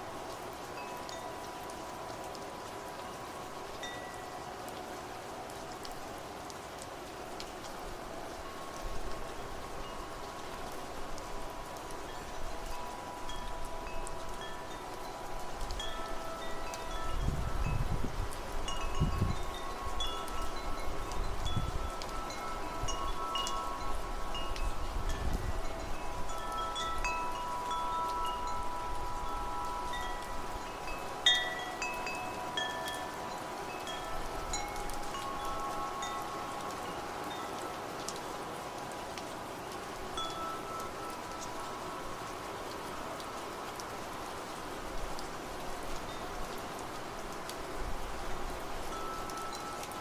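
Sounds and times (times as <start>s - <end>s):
wind chimes ringing: 0.0s - 5.1s, 8.4s - 50.0s
low gusts of wind: 0.0s - 50.0s.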